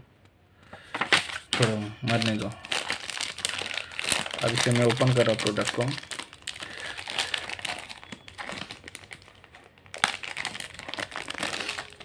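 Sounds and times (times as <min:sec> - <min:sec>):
plastic wrap crinkling: 0:00.8 - 0:12.0.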